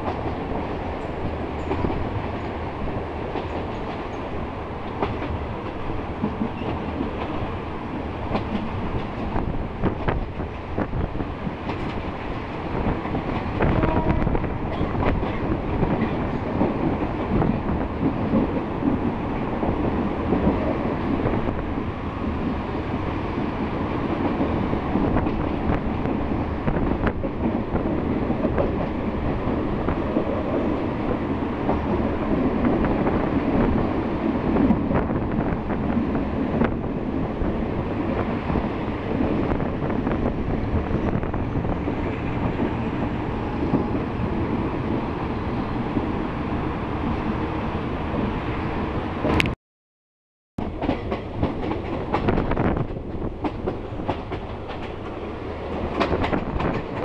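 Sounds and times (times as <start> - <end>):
rail joint clicks: 0.0 - 45.1, 49.2 - 49.6, 50.6 - 57.0
train wheels rumbling on rails: 0.0 - 49.6, 50.6 - 57.0.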